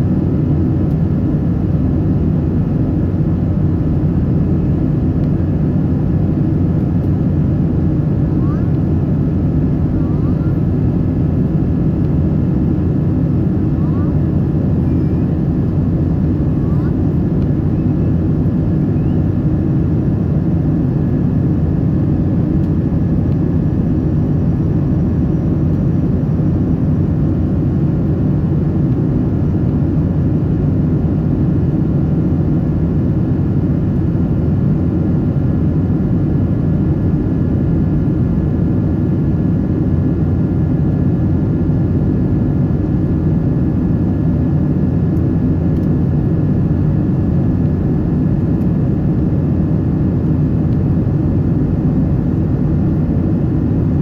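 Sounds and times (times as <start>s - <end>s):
jet cabin engine rush: 0.0s - 54.0s.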